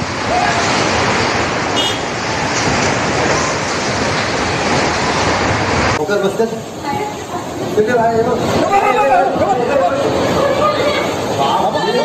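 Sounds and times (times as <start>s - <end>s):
driving rain: 0.0s - 12.0s
strong wind through trees: 0.0s - 12.0s.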